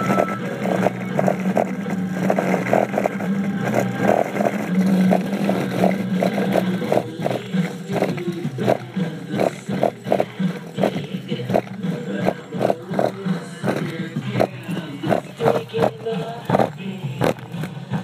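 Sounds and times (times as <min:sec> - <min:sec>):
buzzy bass drone from subwoofer: 0:00.0 - 0:17.7
sharp clicks from speaker cone: 0:00.0 - 0:18.0.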